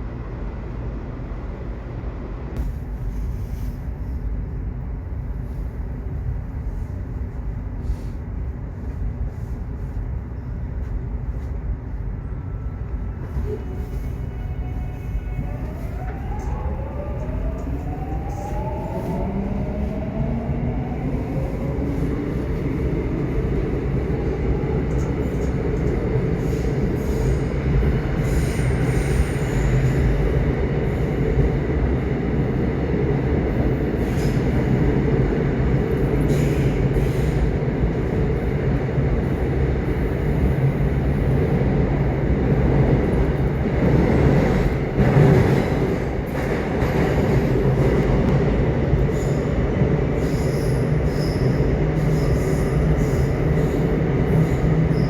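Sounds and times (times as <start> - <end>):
subway motors whining: 0.0 - 55.0
train wheels rumbling on track: 0.0 - 55.0.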